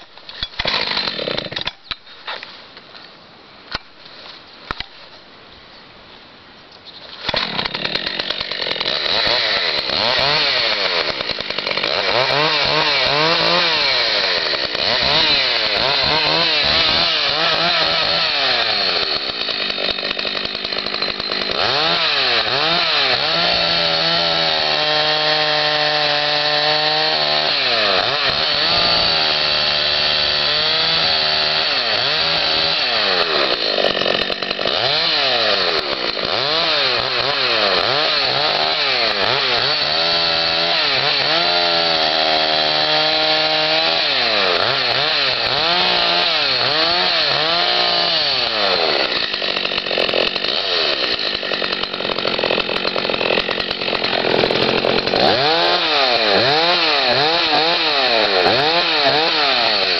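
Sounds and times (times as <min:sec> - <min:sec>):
chainsaw revving and cutting logs: 0:00.0 - 0:01.7, 0:07.2 - 0:59.9.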